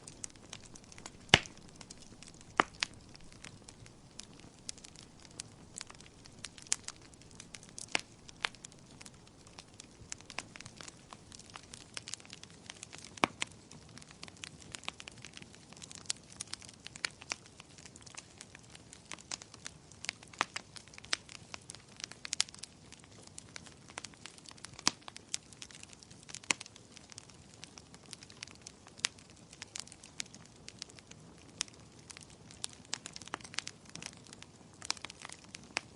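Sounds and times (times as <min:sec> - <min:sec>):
steady hiss of flame: 0:00.0 - 0:35.9
wood fire crackling: 0:00.0 - 0:35.9.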